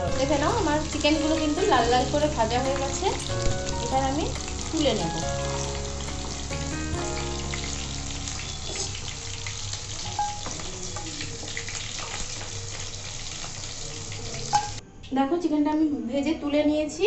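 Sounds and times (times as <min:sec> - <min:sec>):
food deep-frying in oil: 0:00.0 - 0:14.8.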